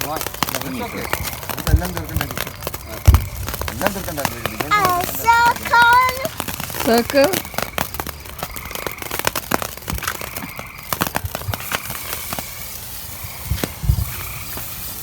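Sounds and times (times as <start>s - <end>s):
firework crackling and popping: 0.0s - 15.0s.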